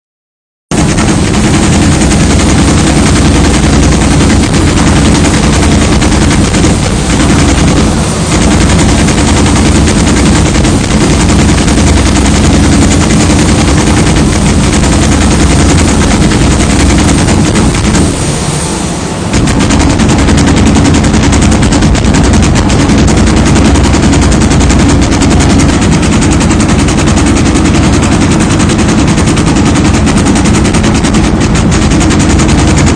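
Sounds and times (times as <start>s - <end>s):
machine punching holes rattling: 0.7s - 18.5s, 19.3s - 32.9s.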